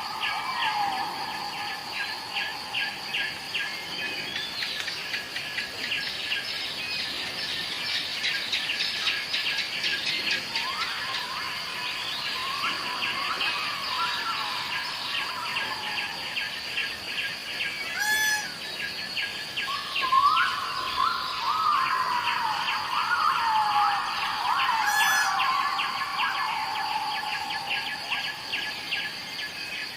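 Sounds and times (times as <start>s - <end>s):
forest birds calling: 0.0s - 29.9s
high insect drone: 0.0s - 29.9s.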